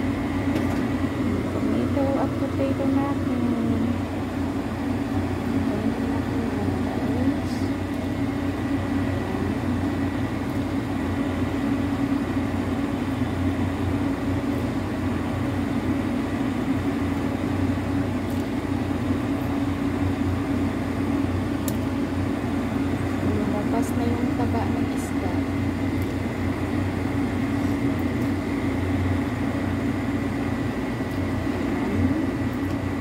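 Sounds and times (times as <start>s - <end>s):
machine humming: 0.0s - 33.0s.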